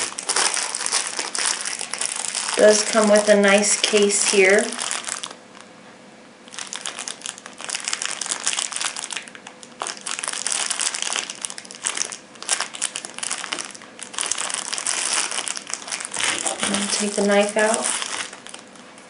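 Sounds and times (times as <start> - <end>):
packaging crinkling: 0.0 - 5.7, 6.4 - 19.0.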